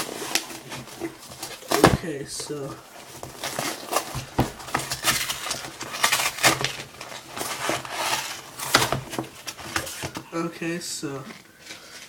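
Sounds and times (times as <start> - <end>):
cardboard and paper rustling: 0.0 - 12.0
scrapes: 0.0 - 12.0.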